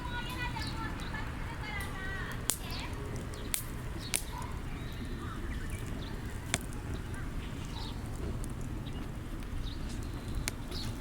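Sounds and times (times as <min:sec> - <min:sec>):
firewood crackling: 0:00.0 - 0:11.0
low rush of flames: 0:00.0 - 0:11.0
sharp pops of fire: 0:01.8 - 0:11.0.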